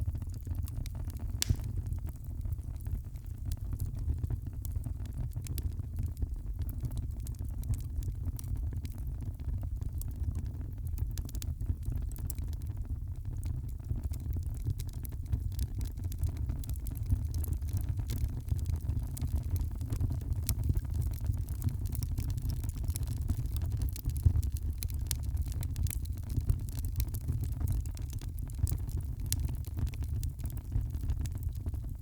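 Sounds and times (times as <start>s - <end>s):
fire crackling and popping: 0.1s - 32.0s.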